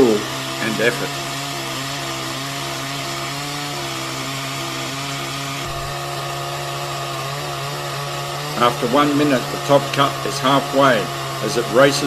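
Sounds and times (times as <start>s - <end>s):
chainsaw cutting log: 0.0s - 12.0s.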